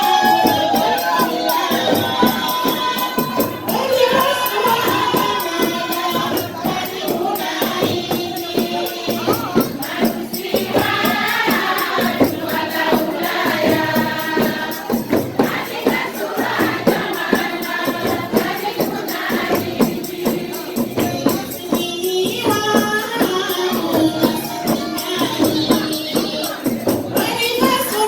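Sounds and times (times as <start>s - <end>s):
group of voices singing: 0.0s - 28.0s
jingling hand percussion: 0.0s - 28.0s.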